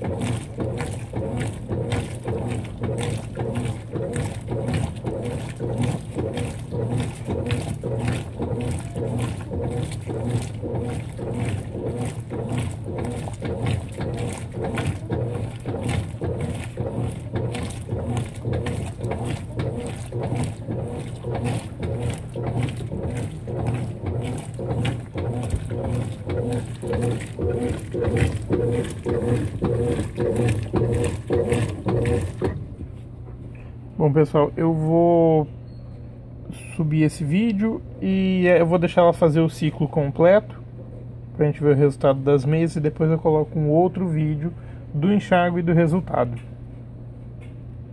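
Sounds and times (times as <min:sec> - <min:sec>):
water sloshing in washing machine: 0:00.0 - 0:35.3, 0:36.5 - 0:40.5, 0:41.5 - 0:46.4
washing machine motor hum: 0:00.0 - 0:35.5, 0:36.5 - 0:47.9.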